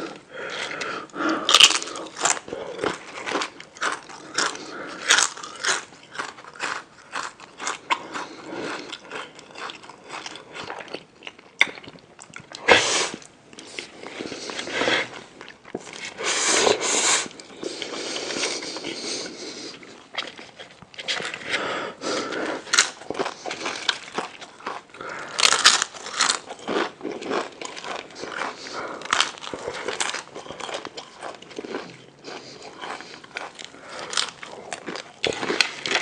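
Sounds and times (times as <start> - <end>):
person chewing and crunching food: 0.0 - 36.0.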